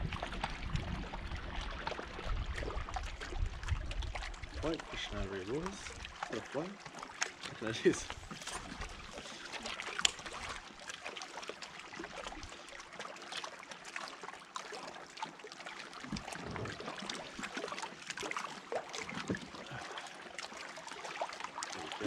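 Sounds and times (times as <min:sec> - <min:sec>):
water splashing against kayak: 0:00.0 - 0:22.0.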